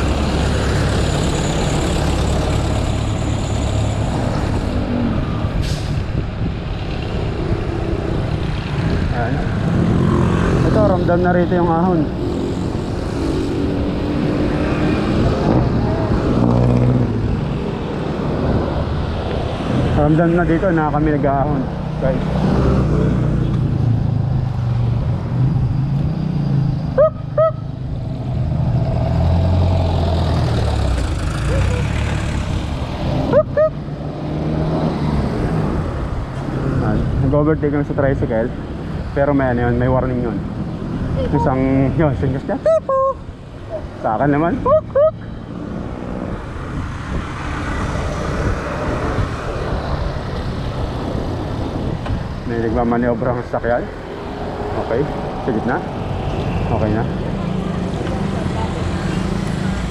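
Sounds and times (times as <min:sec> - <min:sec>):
road and traffic noise: 0:00.0 - 0:59.9
vehicle engine: 0:00.0 - 0:59.9
wind rushing over microphone: 0:00.0 - 0:59.9.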